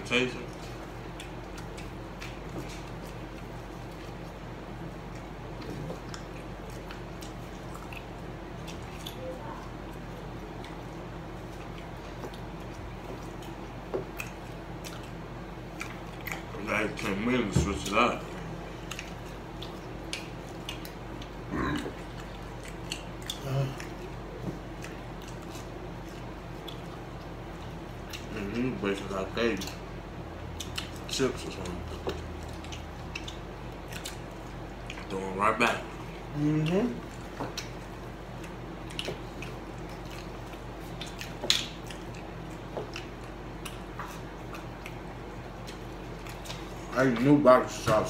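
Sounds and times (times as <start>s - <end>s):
low hum-like vocal sound: 0.0s - 48.0s
steady low hum: 0.0s - 48.0s
chewing food: 0.2s - 48.0s.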